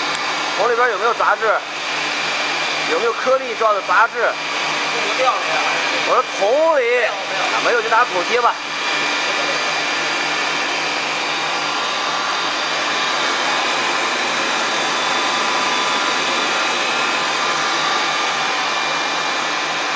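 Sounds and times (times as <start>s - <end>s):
grinding machine whirring: 0.0s - 19.9s.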